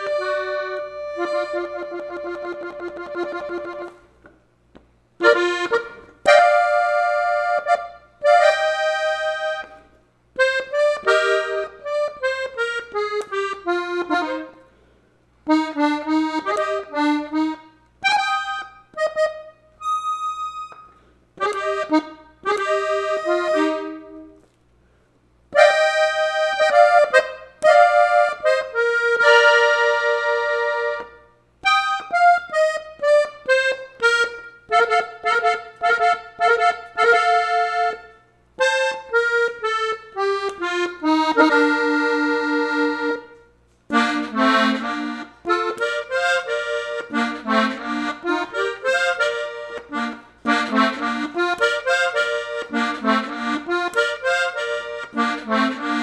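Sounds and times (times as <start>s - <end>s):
button accordion melody: 0.0s - 4.4s, 5.2s - 24.6s, 25.5s - 56.0s.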